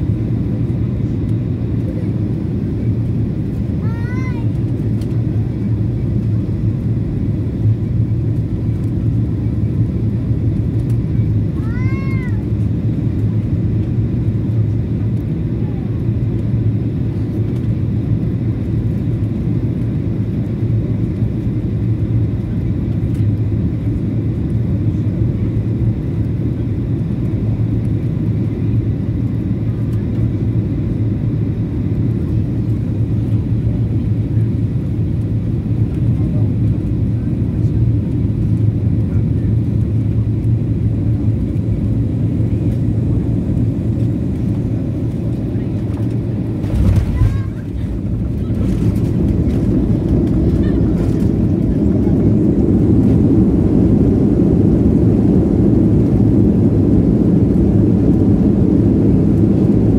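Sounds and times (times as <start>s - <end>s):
airplane cabin engine noise: 0.0s - 59.9s.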